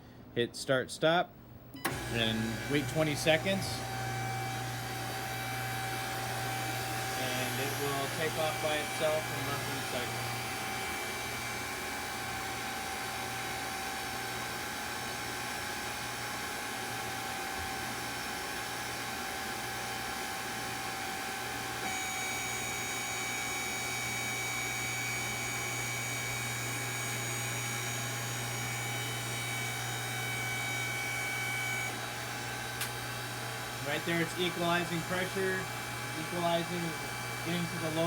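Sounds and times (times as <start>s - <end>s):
hydraulic power unit humming and whining: 1.6s - 38.0s.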